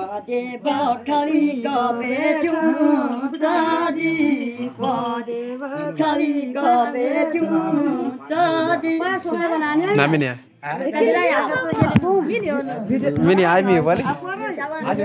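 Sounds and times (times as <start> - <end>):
women singing unaccompanied: 0.0 - 10.2, 10.8 - 15.0.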